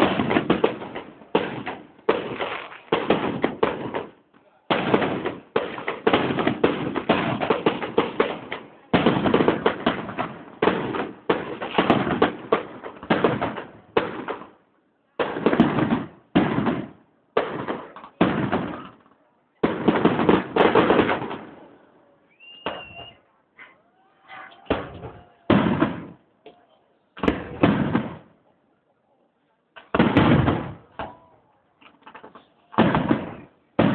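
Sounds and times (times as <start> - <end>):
fireworks bangs and crackling: 0.0 - 14.6, 15.2 - 23.2, 24.7 - 26.3, 27.2 - 28.4, 29.8 - 31.3, 31.9 - 33.9.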